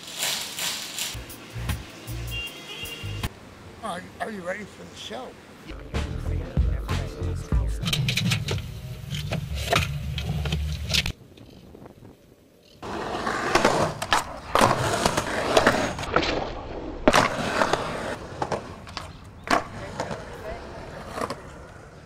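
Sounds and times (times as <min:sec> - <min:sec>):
skateboard wheels rolling on concrete: 0:00.0 - 0:05.1, 0:07.0 - 0:22.0.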